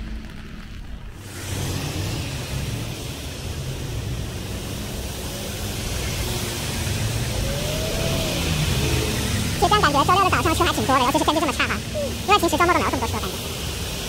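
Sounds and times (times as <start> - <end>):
tyres hissing on wet road: 0.2 - 14.0.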